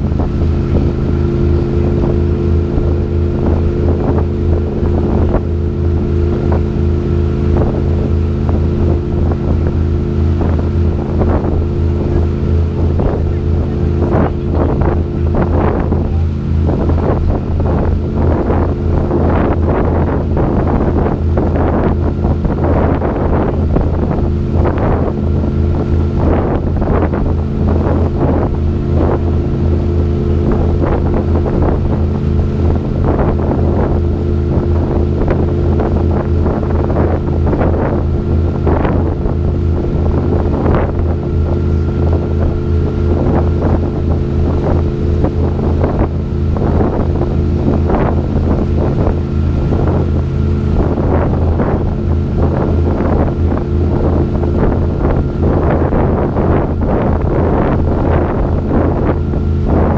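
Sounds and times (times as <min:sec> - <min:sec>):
boat engine humming: 0:00.0 - 0:59.9
rush of boat wake: 0:00.0 - 0:59.9
wind gusting on microphone: 0:00.0 - 0:59.9.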